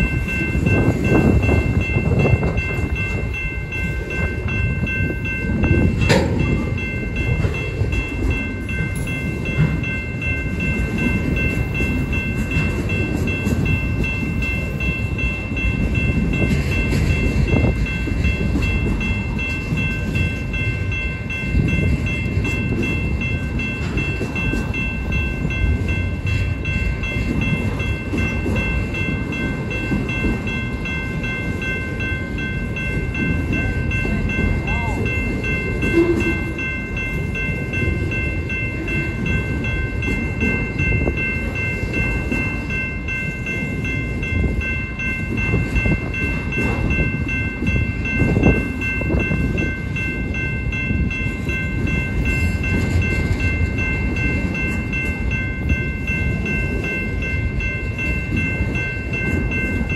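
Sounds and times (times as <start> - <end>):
freight train wheels rumbling: 0.0 - 59.9
high-pitched ringing: 0.0 - 59.9.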